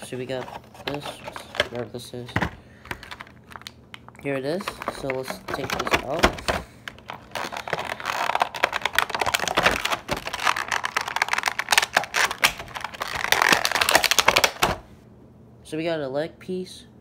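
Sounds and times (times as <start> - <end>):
plastic blister tray crackling: 0.0 - 14.9.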